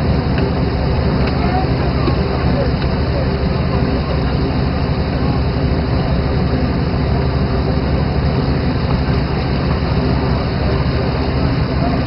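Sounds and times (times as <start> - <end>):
boat engine running: 0.0 - 12.0
water rushing along hull: 0.0 - 12.0.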